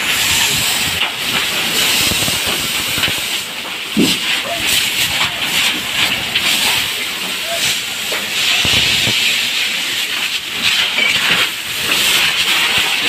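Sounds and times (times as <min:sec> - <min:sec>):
hose spraying water on fire: 0:00.0 - 0:13.0.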